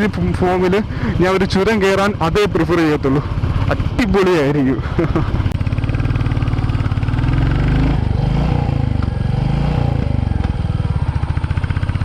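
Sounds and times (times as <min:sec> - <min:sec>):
motorcycle engine thumping: 0:00.0 - 0:07.4, 0:08.8 - 0:09.3, 0:09.9 - 0:12.0.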